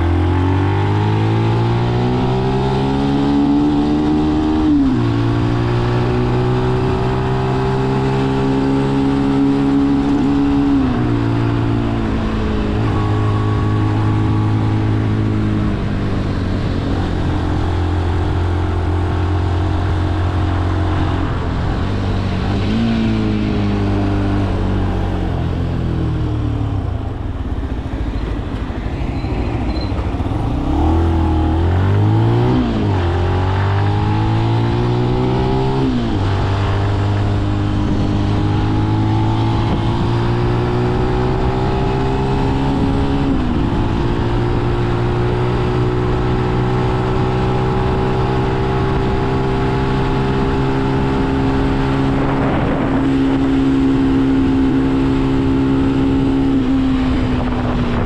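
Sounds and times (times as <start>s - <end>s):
motorcycle engine accelerating: 0.0s - 58.0s
rushing wind: 0.0s - 58.0s.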